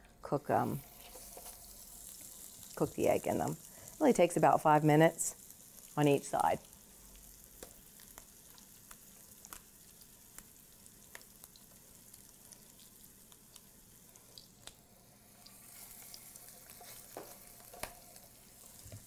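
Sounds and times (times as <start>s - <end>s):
patties sizzling in oil: 0.2s - 19.0s
oil popping and crackling: 0.8s - 19.0s.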